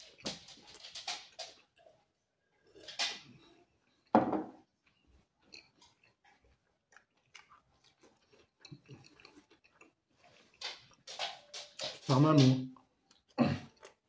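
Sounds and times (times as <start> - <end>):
person chewing pizza: 0.0 - 14.0.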